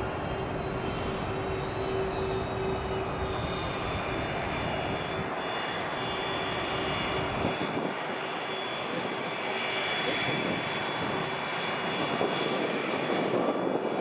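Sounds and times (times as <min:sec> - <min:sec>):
high engine whine: 0:00.0 - 0:14.0
jet engines rumbling: 0:00.0 - 0:14.0.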